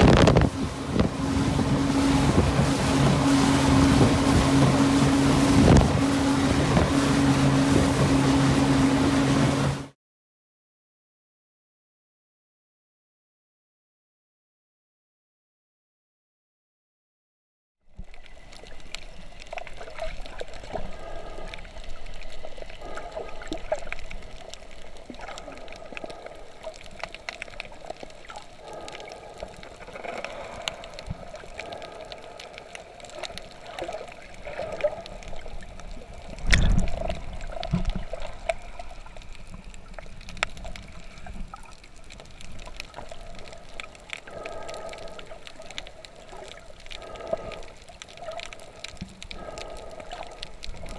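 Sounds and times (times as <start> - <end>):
water sloshing and gurgling: 0.0 - 10.0, 17.9 - 50.9.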